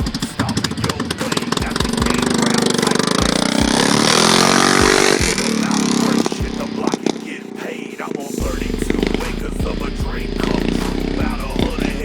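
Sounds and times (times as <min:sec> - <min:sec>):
atv engine revving: 0:00.0 - 0:07.1, 0:08.4 - 0:12.0.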